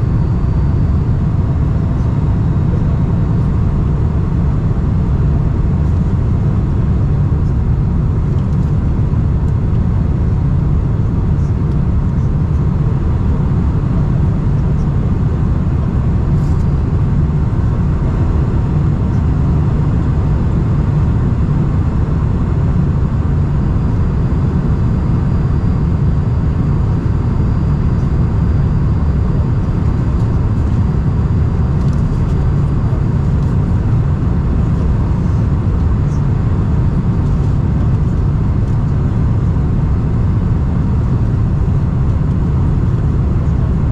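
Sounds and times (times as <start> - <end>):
airplane cabin noise in flight: 0.0 - 43.9.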